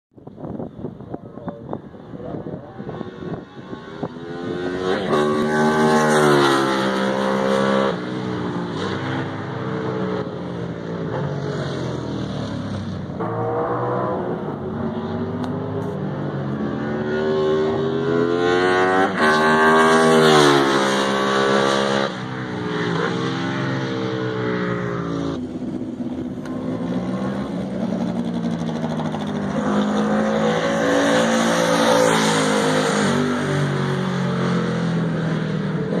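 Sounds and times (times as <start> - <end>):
racing motorcycle passing at high revs: 1.5 - 36.0.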